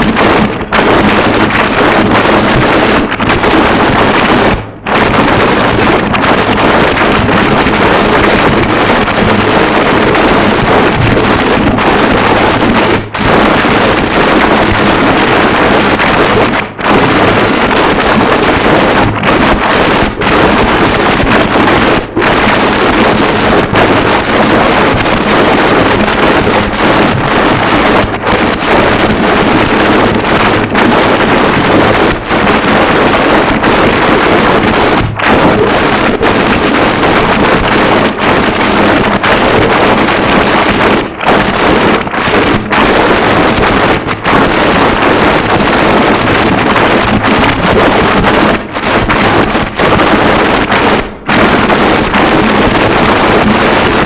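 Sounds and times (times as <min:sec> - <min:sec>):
distorted static noise wall: 0:00.0 - 0:54.0.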